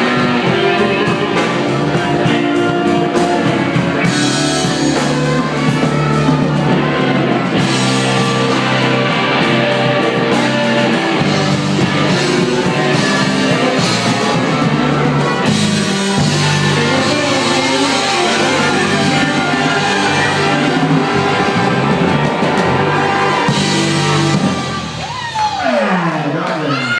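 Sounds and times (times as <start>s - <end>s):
live blues band playing: 0.0s - 25.8s
drum kit beat: 0.0s - 26.2s.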